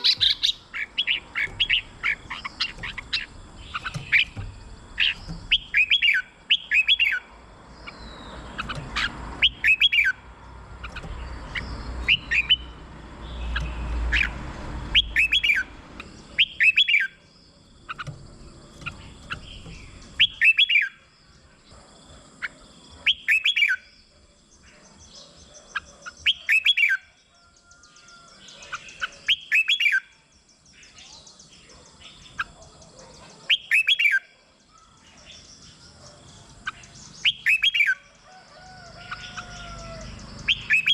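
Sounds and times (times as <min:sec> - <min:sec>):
bird singing sweeping phrases: 0:00.0 - 0:40.9.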